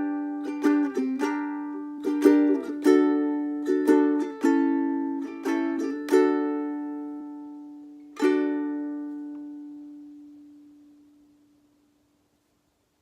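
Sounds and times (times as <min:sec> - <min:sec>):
ukulele chord strummed: 0:00.0 - 0:11.7.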